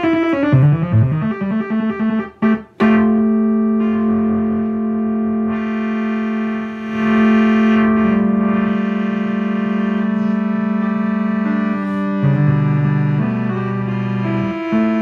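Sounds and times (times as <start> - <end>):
ambient synth chords: 2.8 - 15.0.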